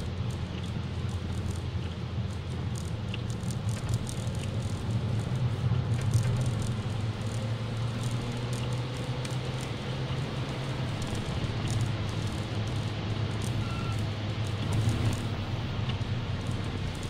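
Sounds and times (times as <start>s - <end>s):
car engine and tyre drone: 0.0s - 17.0s
windscreen wipers running: 0.0s - 17.0s.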